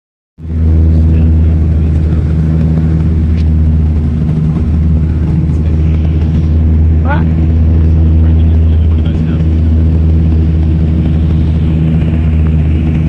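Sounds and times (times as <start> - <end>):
propeller plane cabin drone: 0.4 - 13.0.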